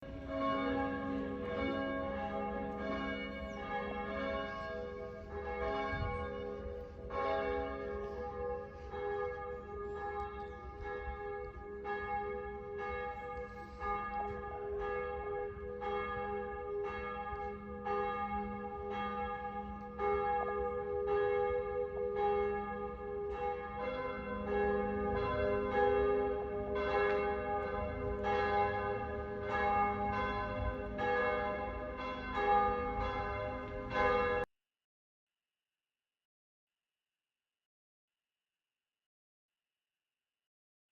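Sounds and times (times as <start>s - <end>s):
church bells ringing: 0.0s - 34.5s.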